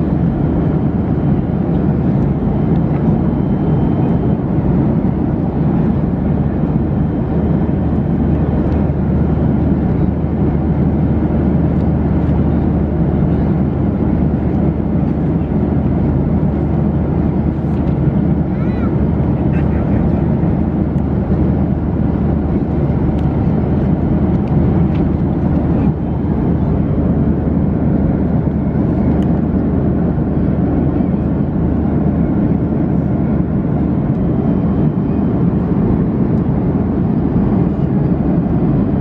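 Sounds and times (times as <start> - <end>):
airliner cabin engine noise: 0.0 - 39.0.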